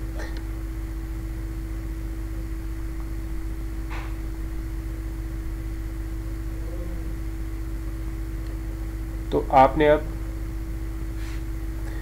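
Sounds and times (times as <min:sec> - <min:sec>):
low-pitched hum: 0:00.0 - 0:12.0.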